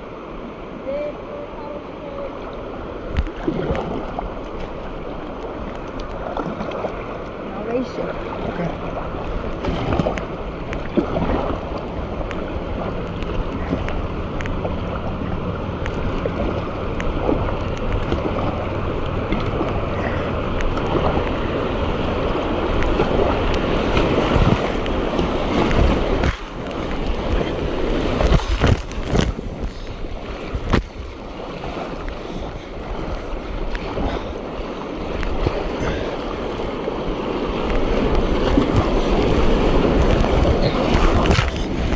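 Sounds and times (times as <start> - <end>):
river water rushing: 0.0 - 41.9
paddle strokes splashing: 1.7 - 41.9.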